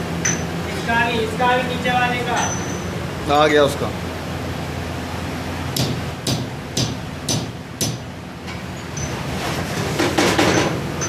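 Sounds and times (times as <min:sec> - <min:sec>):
furnace roaring: 0:00.0 - 0:11.0.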